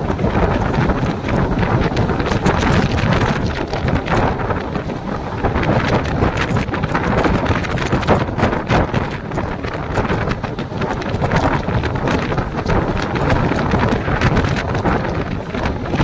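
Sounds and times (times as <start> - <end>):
electric train rumble: 0.0 - 16.0
wind buffeting microphone: 0.0 - 16.0.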